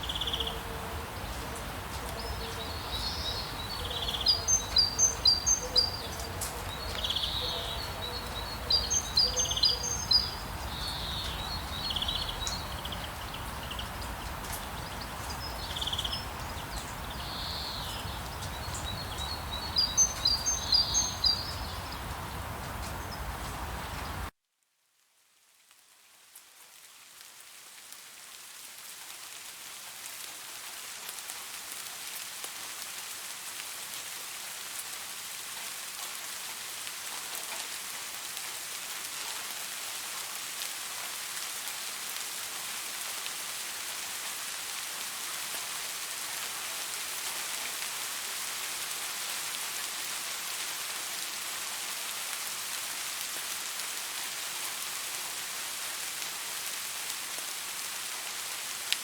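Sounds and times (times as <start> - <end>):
rain falling: 0.0 - 24.4, 25.0 - 59.0.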